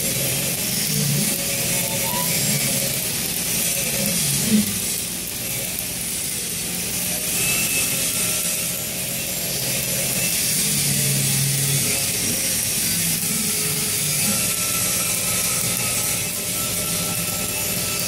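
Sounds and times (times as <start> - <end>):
welding arc sizzling: 0.0 - 18.0.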